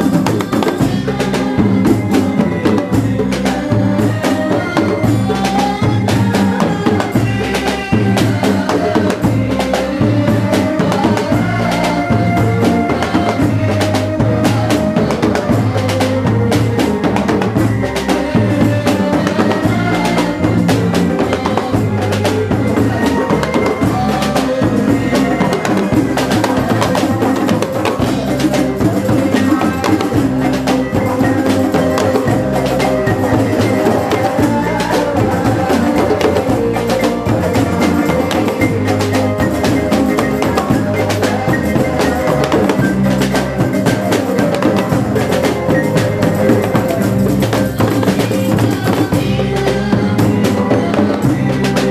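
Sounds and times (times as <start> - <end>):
drum kit beat: 0.0 - 51.9
hand drums: 0.0 - 51.9
sustained bass line: 0.0 - 51.9.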